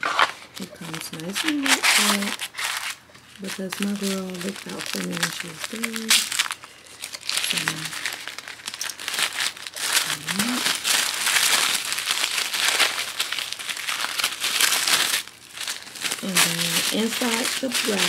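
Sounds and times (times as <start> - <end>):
wrapping paper crinkling: 0.0 - 18.0.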